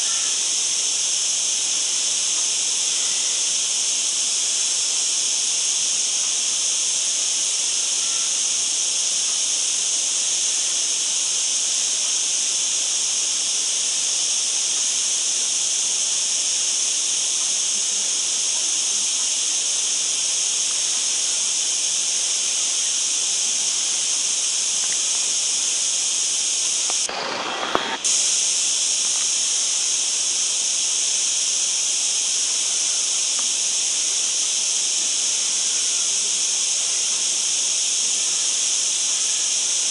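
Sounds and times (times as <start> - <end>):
insects buzzing shrilly: 0.0 - 39.9.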